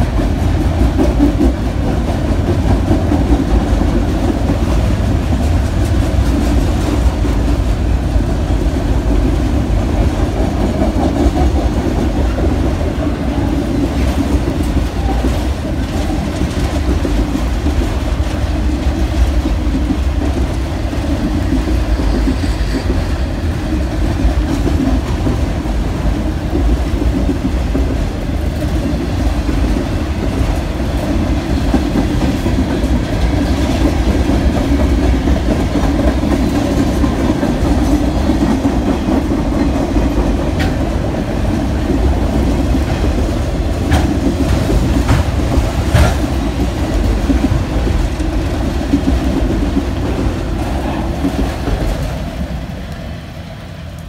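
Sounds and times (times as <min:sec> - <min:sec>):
freight train wheels rolling on rails: 0:00.0 - 0:54.0.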